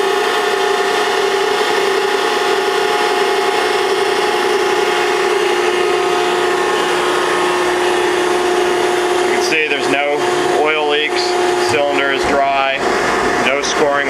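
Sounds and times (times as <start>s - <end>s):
hydraulic pump motor whining: 0.0s - 14.0s.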